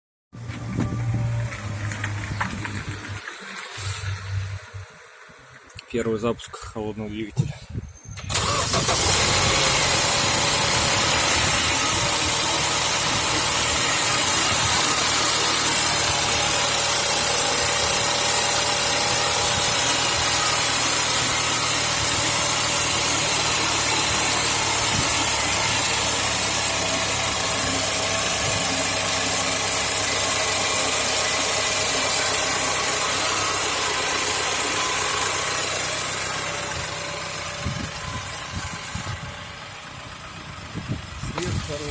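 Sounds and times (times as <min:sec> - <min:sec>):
car engine starting and idling: 0:00.4 - 0:06.7, 0:08.1 - 0:41.9.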